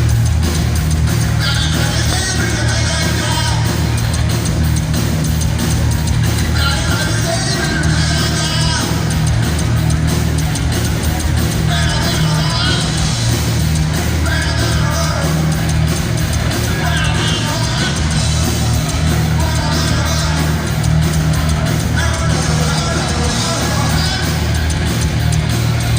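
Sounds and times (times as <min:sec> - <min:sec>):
bass guitar: 0:00.0 - 0:25.9
distorted electric guitars: 0:00.0 - 0:25.9
drums: 0:00.0 - 0:25.9.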